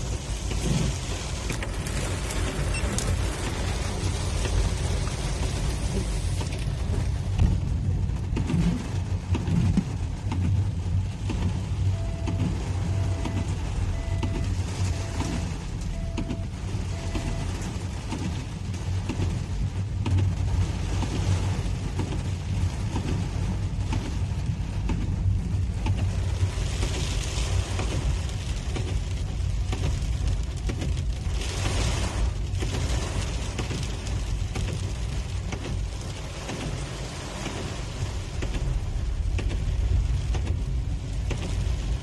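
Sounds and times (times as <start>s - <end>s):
engine and road noise: 0.0s - 42.0s
rain hitting car windows: 0.0s - 42.0s.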